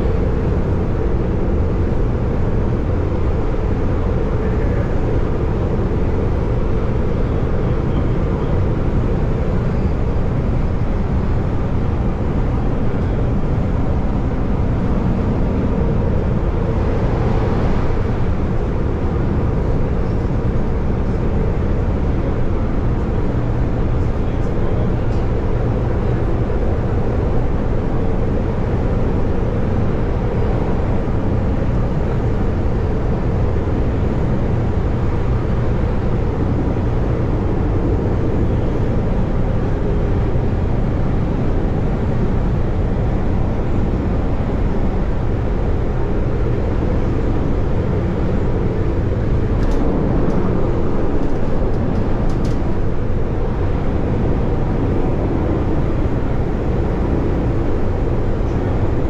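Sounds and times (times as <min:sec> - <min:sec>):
low motor hum: 0:00.0 - 0:59.0
wheels rumbling on rail: 0:00.0 - 0:59.0.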